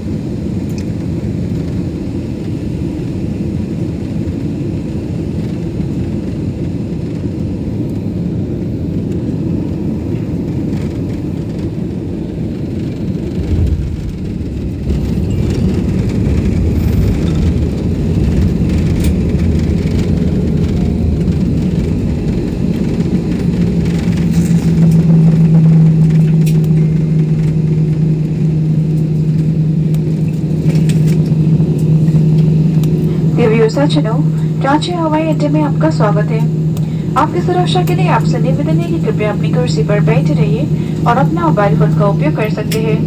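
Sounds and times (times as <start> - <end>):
airliner cabin rumble: 0.0 - 43.0
low engine hum: 0.0 - 43.0.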